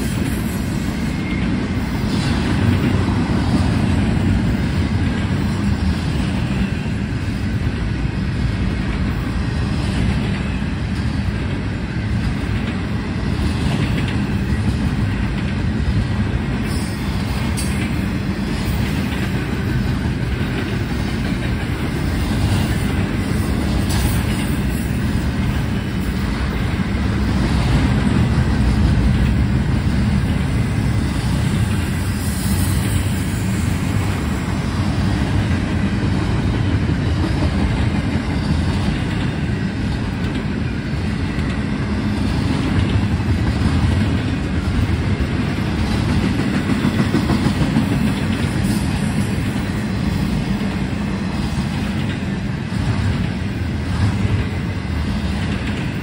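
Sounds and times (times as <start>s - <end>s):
faint rail clacks: 0.0s - 56.0s
train wheels rumbling on rail: 0.0s - 56.0s.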